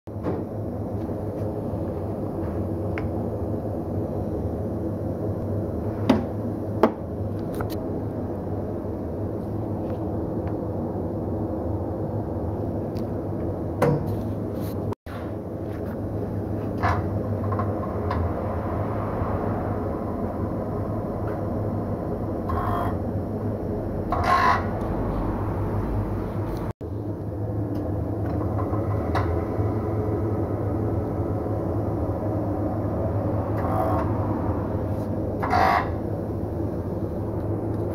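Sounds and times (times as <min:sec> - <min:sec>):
low machine hum: 0:00.1 - 0:37.9.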